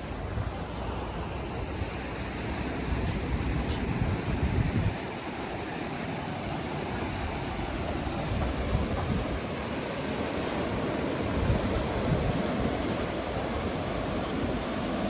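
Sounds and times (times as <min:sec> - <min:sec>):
wind buffeting microphone: 0:00.0 - 0:05.6, 0:06.9 - 0:15.0
ocean surf washing on beach: 0:00.0 - 0:15.0.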